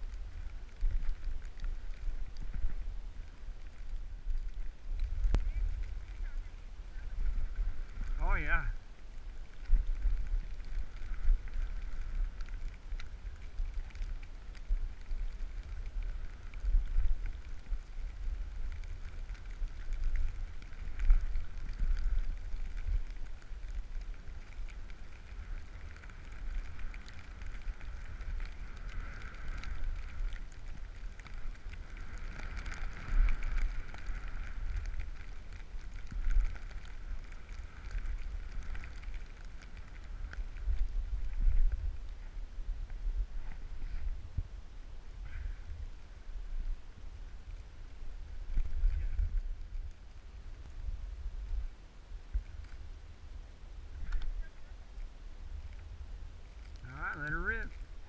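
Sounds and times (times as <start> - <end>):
skis gliding through snow: 0.0 - 58.0
wind buffeting microphone: 0.0 - 58.0.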